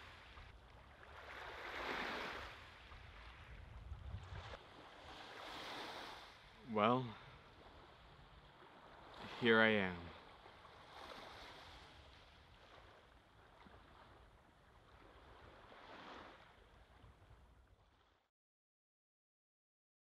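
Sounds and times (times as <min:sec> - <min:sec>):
faint small waves on shore: 0:00.0 - 0:18.3.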